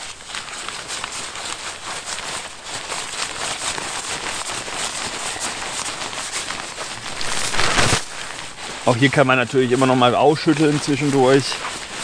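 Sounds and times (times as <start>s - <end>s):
sleeping pad fabric crackling: 0.0s - 12.0s.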